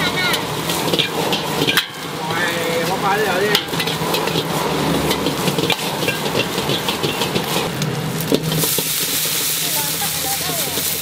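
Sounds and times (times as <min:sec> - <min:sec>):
food sizzling: 0:00.0 - 0:11.0
gas burner hissing: 0:00.0 - 0:11.0
metal spatula clanking on wok: 0:00.0 - 0:11.0.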